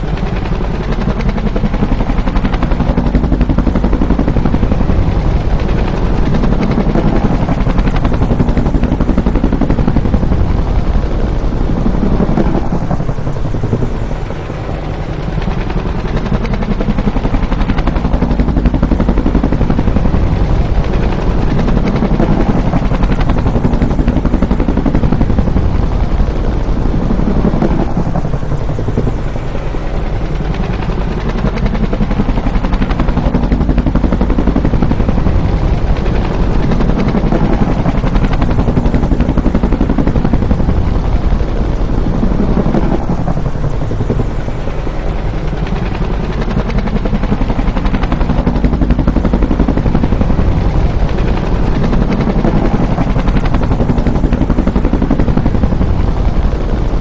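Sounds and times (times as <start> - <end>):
helicopter rotor beating: 0.0 - 57.0.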